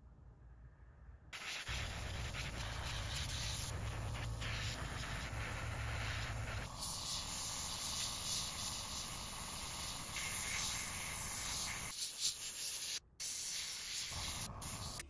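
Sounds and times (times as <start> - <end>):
airbrush spraying hiss: 1.4 - 15.0.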